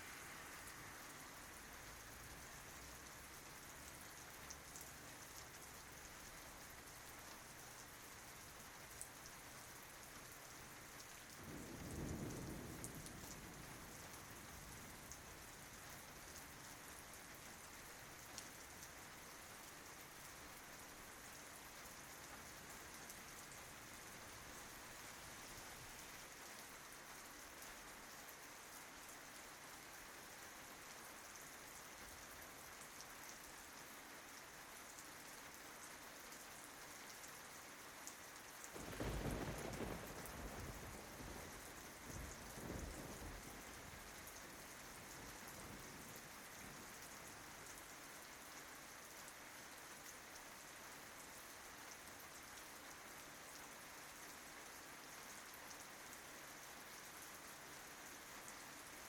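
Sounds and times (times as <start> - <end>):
rain pattering on leaves: 0.0 - 59.0.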